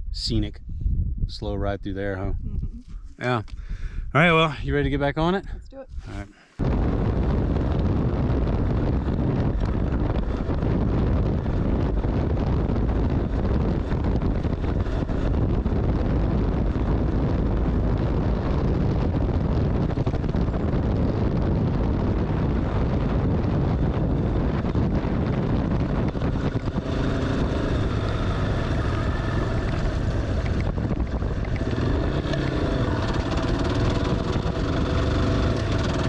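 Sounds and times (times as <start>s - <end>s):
wind rush on microphone: 0.0s - 36.0s
motorcycle engine running: 6.7s - 36.0s.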